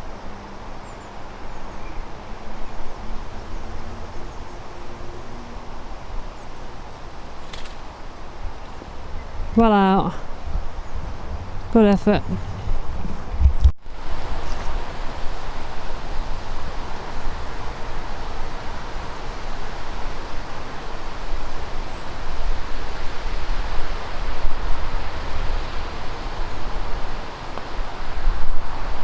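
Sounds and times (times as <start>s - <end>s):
wind blowing across microphone: 0.0s - 29.0s.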